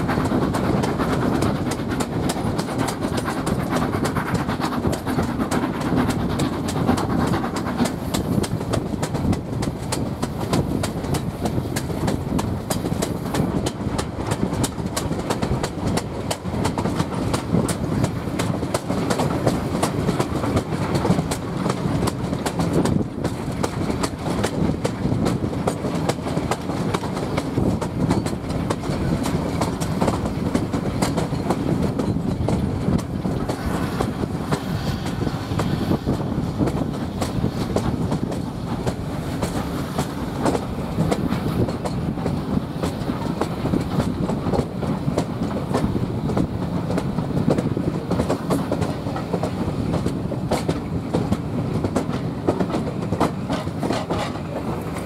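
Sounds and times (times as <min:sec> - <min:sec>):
train rolling noise: 0:00.0 - 0:55.0
wheels clacking over rail joints: 0:00.0 - 0:55.0.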